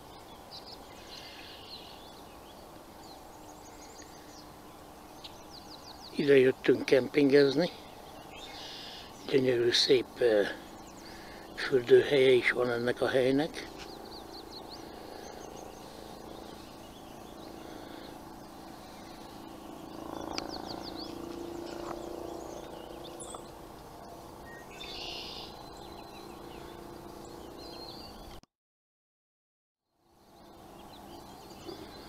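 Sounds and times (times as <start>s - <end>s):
small birds chirping: 0.0s - 28.4s, 29.9s - 32.0s
steady low hum: 0.0s - 28.4s, 30.0s - 32.0s.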